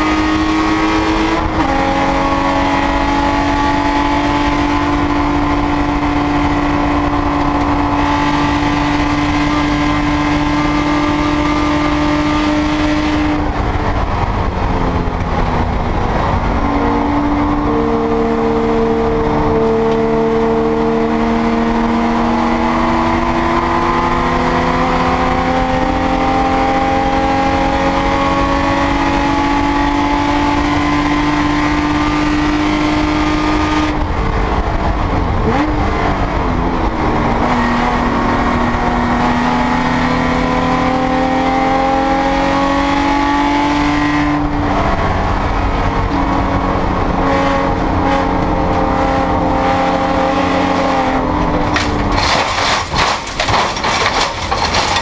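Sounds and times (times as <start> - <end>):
race car engine pulling hard: 0.0 - 55.0
road and wind noise: 0.0 - 55.0.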